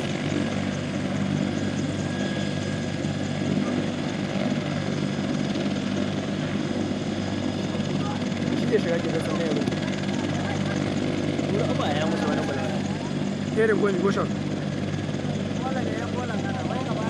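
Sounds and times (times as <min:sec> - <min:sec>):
helicopter turbine and rotor humming: 0:00.0 - 0:17.0.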